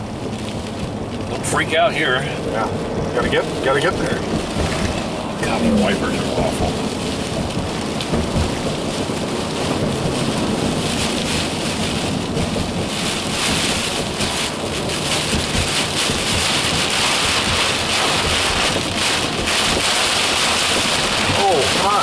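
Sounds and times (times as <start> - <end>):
heavy rain on vehicle roof: 0.0 - 22.0
road noise: 0.0 - 22.0.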